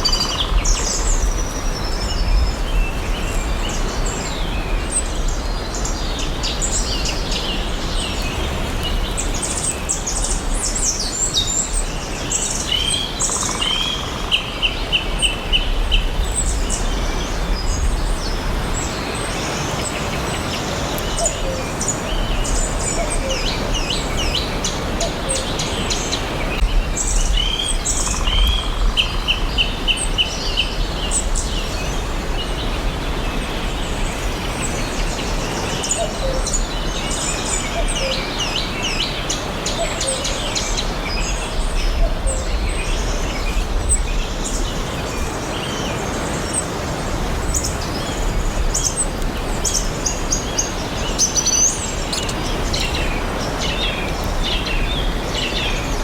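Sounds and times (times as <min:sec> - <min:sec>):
forest birds chirping: 0:00.0 - 0:56.0.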